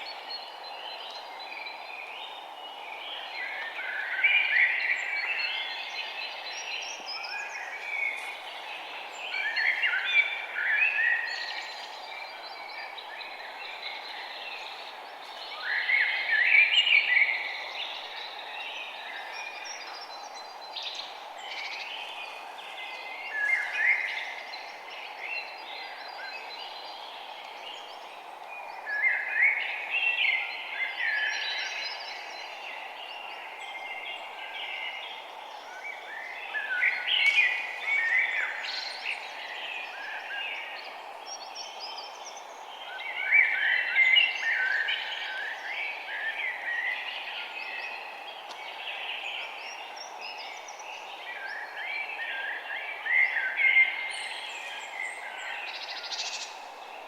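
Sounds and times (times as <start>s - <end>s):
songbirds chirping and twittering: 0.0s - 57.0s
steady background hiss: 0.0s - 57.0s.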